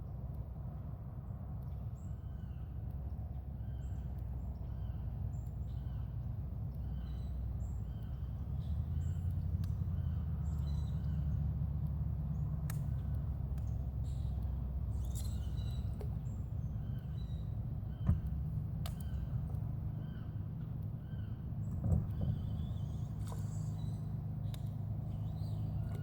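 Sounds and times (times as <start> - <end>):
steady low rumble: 0.0 - 26.0
bird chirping: 3.6 - 11.5, 12.3 - 26.0.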